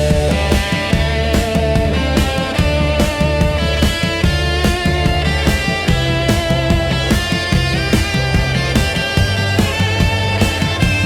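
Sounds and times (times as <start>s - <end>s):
bass: 0.0s - 11.0s
drum kit beat: 0.0s - 11.0s
electric guitar notes: 0.0s - 11.0s.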